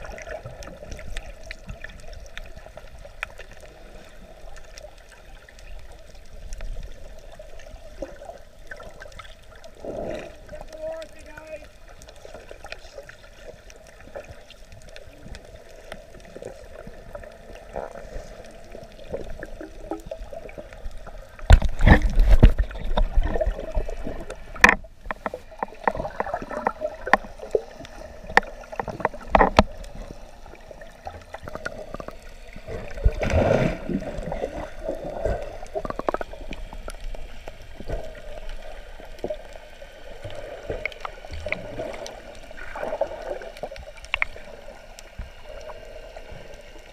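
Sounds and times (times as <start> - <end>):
underwater sloshing and gurgling: 0.0 - 46.9.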